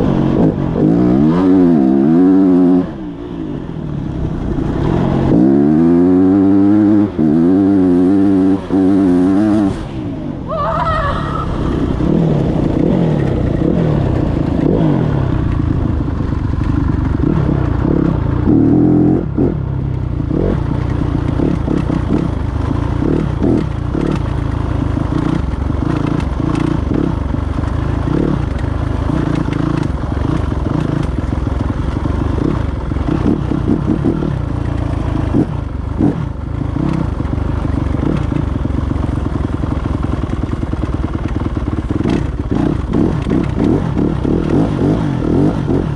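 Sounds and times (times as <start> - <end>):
dirt bike engine revving: 0.0 - 3.3, 4.2 - 45.9.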